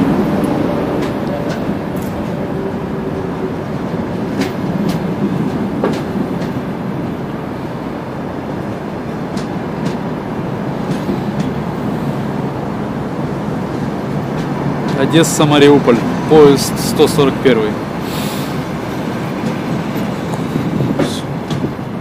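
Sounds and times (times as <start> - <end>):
wheels clicking over rail joints: 0.0 - 17.9, 18.5 - 22.0
train coaches rumbling past: 0.0 - 22.0.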